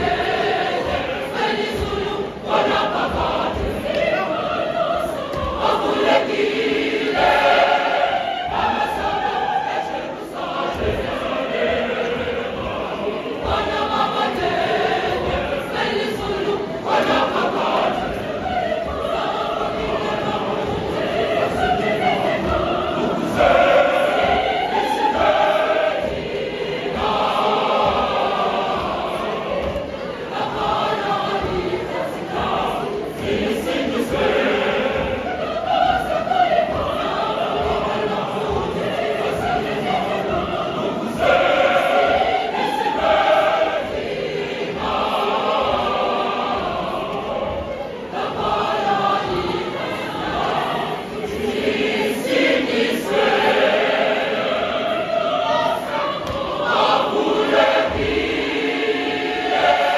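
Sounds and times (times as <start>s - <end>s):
choir singing held chords: 0.0s - 59.9s.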